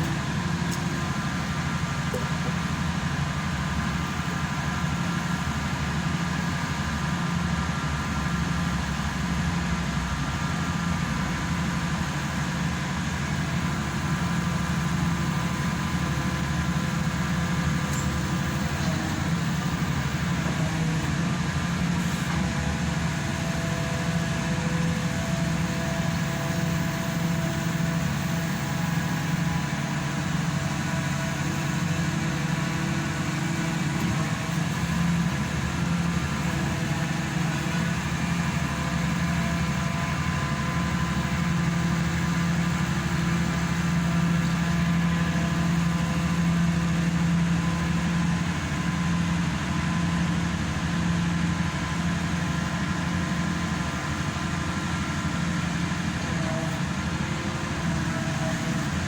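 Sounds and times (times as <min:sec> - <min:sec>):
pile driver engine droning: 0:00.0 - 0:59.0.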